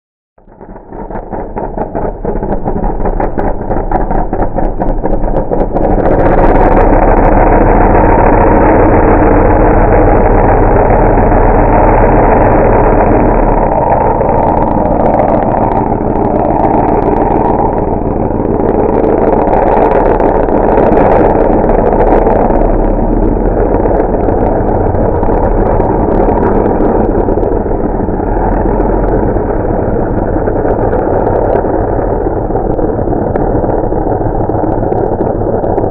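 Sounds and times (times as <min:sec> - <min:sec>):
truck engine running loud: 0:00.4 - 0:35.9.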